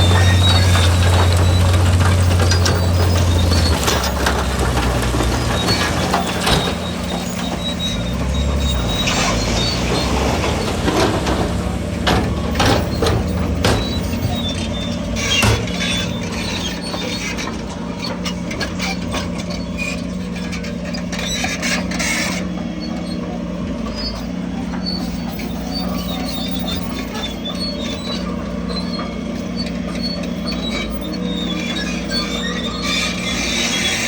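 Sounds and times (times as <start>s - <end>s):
diesel engine running: 0.0s - 34.0s
metallic clanks and knocks: 0.0s - 34.0s.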